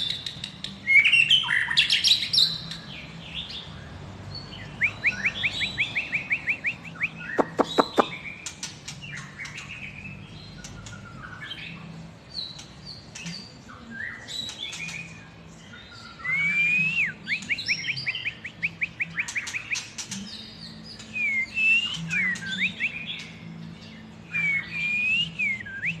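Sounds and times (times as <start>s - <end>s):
songbird singing trills and whistles: 0.0s - 26.0s.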